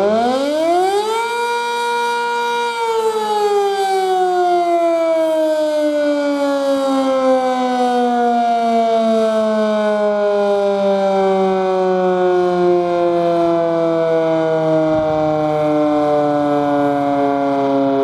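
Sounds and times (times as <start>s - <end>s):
warning siren winding down: 0.0s - 18.0s.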